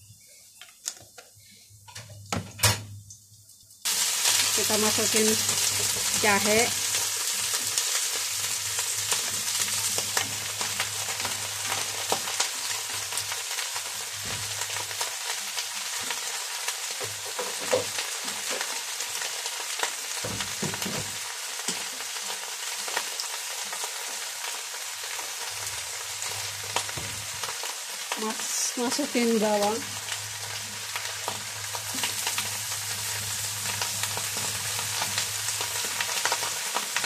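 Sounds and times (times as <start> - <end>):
ginger sizzling in oil: 1.4 - 37.0.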